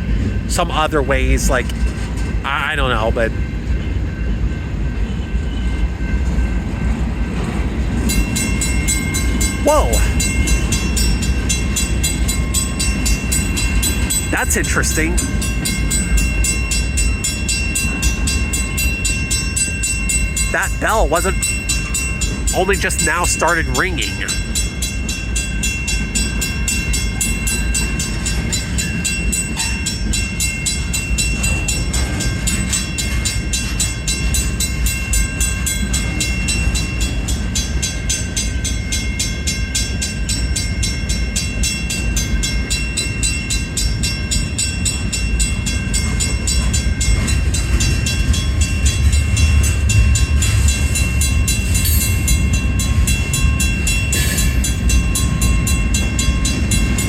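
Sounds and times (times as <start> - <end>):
crossing signal bell ringing: 0.0 - 57.0
freight train rumbling on rails: 0.0 - 57.0.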